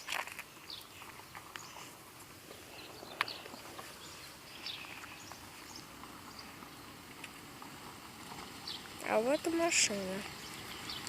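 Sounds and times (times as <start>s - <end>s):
bird chirps: 0.0s - 7.0s, 8.6s - 11.0s.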